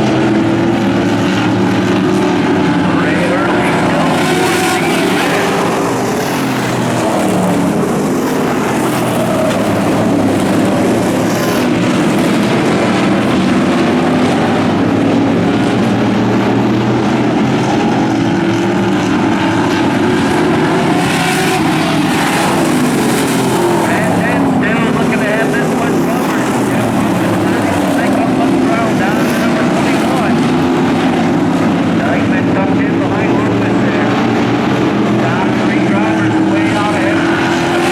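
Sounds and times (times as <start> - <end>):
race car engines droning: 0.0 - 37.9.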